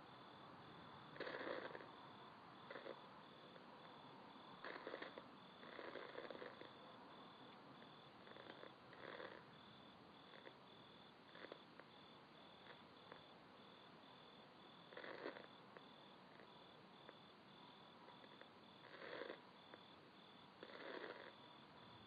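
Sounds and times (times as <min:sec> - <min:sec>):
faint high insect-like chirp: 0:00.0 - 0:22.0.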